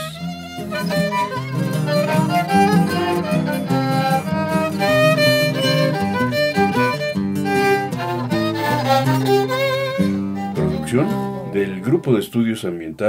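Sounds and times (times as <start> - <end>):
violin melody: 0.0 - 12.9
low string accompaniment: 0.0 - 13.0.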